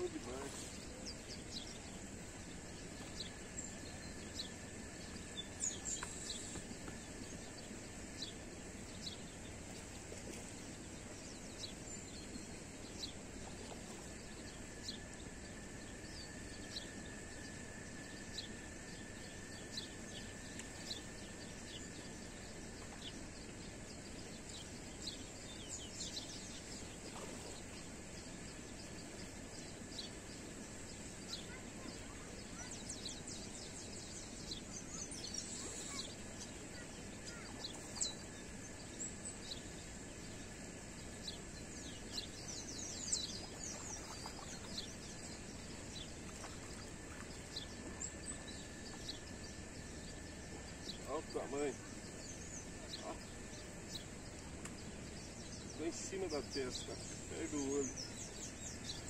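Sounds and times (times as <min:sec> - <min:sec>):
outdoor background noise: 0:00.0 - 0:59.0.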